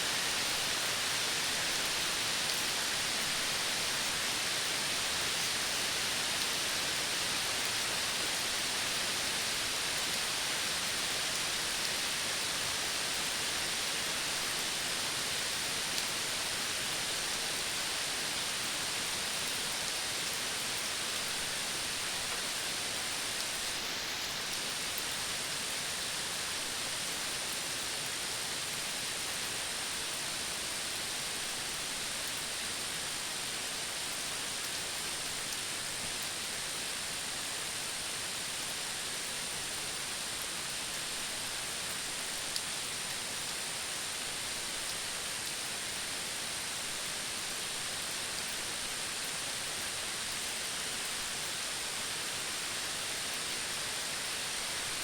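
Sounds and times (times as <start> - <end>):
tropical forest hiss: 0.0 - 55.0.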